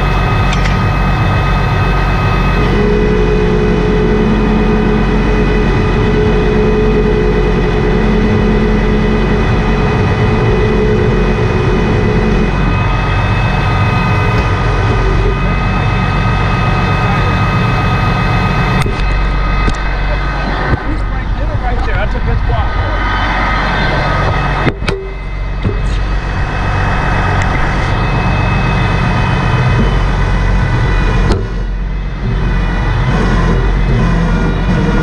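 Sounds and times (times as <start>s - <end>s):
truck engine running: 0.0s - 35.0s
winch whine: 0.0s - 35.0s.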